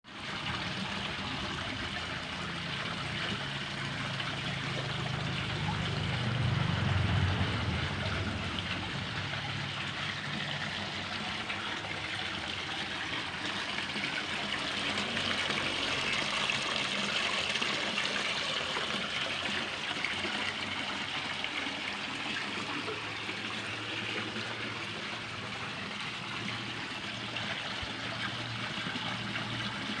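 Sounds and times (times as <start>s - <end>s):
waterfall splashing into pond: 0.1s - 30.0s.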